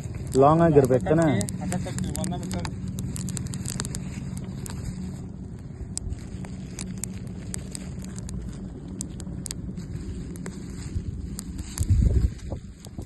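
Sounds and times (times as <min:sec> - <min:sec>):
campfire crackling: 0:00.0 - 0:13.0
low rumble: 0:00.0 - 0:13.0
sharp pops and ticks: 0:00.0 - 0:13.0.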